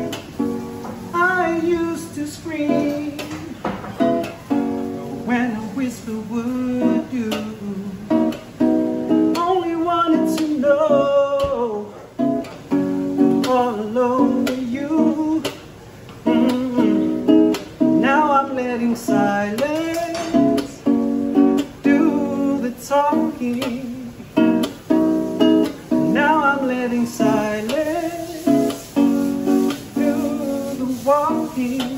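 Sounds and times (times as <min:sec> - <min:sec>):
person singing over strummed guitar: 0:00.0 - 0:31.9.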